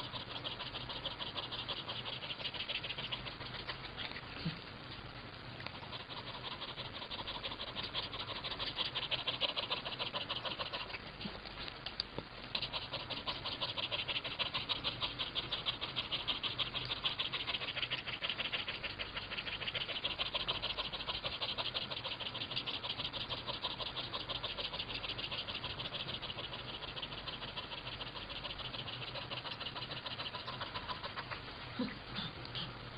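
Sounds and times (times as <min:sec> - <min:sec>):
cat panting: 0:00.0 - 0:04.6, 0:05.6 - 0:11.6, 0:12.5 - 0:32.8.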